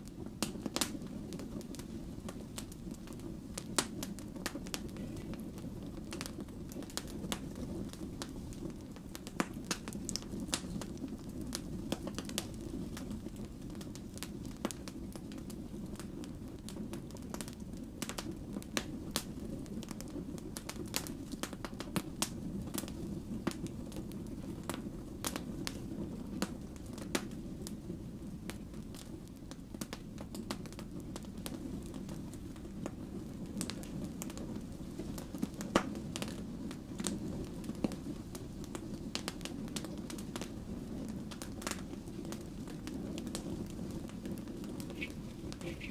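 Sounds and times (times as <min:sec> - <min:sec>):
fire crackles and pops: 0:00.0 - 0:45.9
low rumble of flames: 0:00.0 - 0:45.9.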